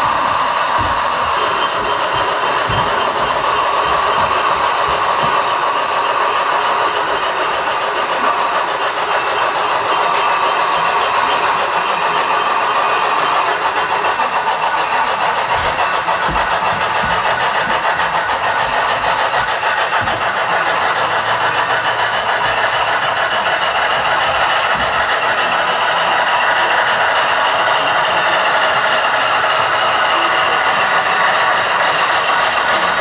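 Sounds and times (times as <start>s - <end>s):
model train running noise: 0.0s - 33.0s.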